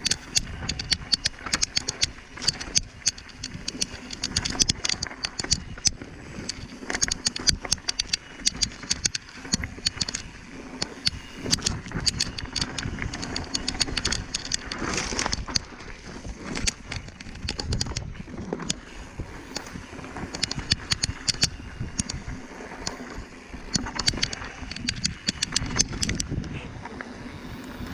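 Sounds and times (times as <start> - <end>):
bicycle clicks and clatter: 0.0 - 27.9
steady noise: 0.0 - 27.9.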